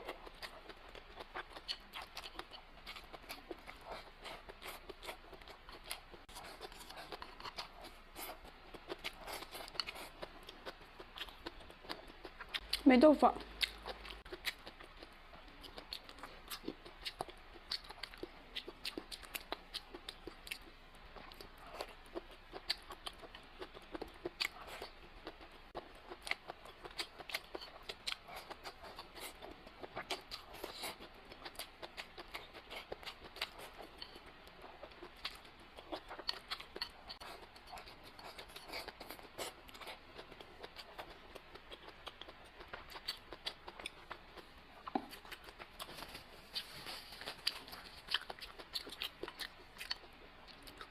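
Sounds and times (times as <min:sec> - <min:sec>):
person chewing and crunching: 0:00.0 - 0:50.9.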